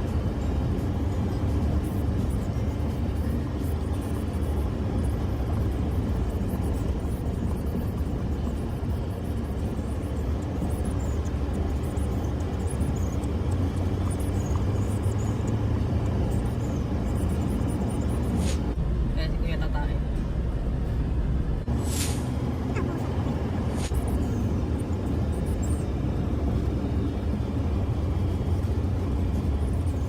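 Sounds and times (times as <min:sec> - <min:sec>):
vehicle rumbling on road: 0:00.0 - 0:30.0.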